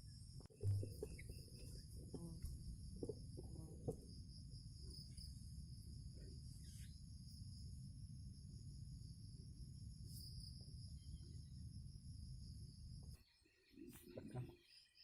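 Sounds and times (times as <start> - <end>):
crickets trilling: 0.0 - 15.0
low rumbling background: 0.2 - 13.0.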